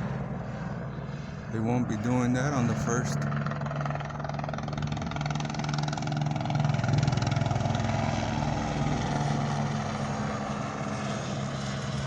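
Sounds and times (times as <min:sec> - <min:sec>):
helicopter engine drone: 0:00.0 - 0:12.0
helicopter rotor chop: 0:00.0 - 0:12.0.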